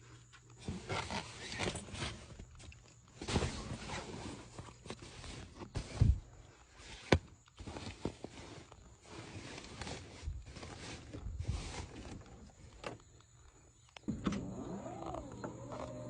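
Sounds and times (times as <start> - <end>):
rustling while packing: 0.0 - 16.0.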